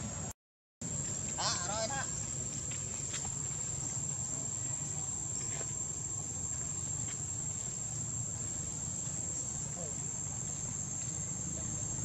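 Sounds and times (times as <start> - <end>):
low outdoor rumble: 0.0 - 12.0
high-pitched insect drone: 0.9 - 12.0.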